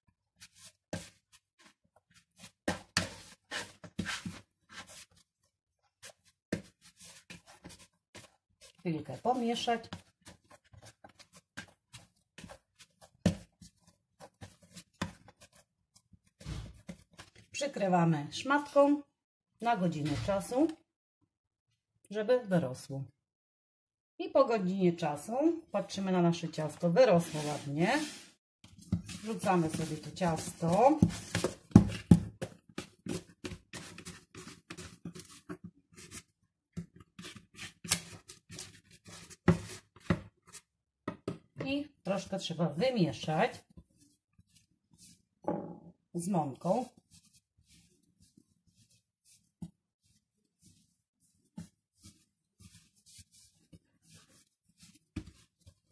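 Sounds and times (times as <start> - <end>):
dough squelching and slapping: 0.2 - 18.0, 25.9 - 45.4, 46.1 - 55.9.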